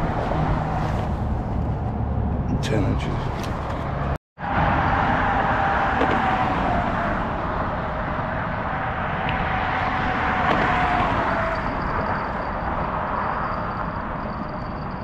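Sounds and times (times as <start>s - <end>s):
road traffic passing: 0.0s - 15.0s
wind rumble on microphone: 0.0s - 15.0s.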